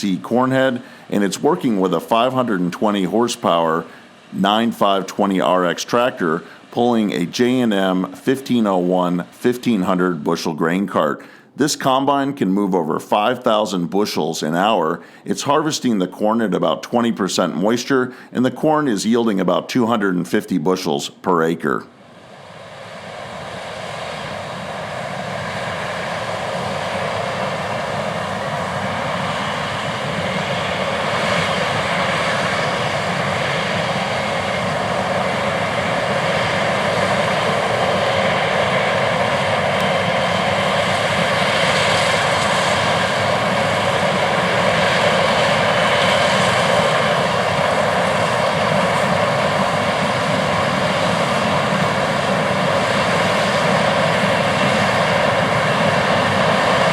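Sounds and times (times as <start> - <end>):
combine harvester drone: 0.0 - 19.1, 22.0 - 56.9.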